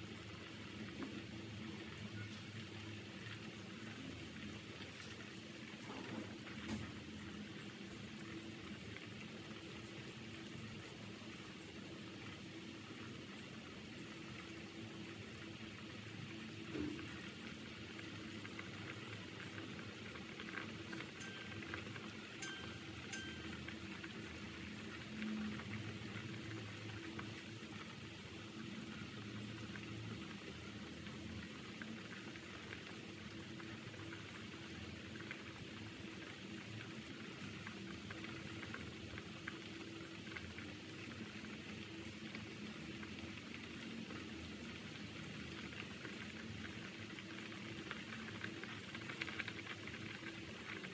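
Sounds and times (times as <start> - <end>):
soup bubbling at a boil: 0.0 - 50.9.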